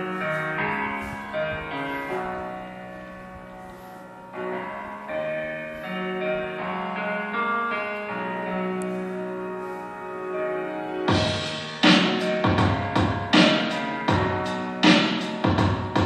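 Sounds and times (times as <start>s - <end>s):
stepping keyboard melody: 0.0s - 16.0s.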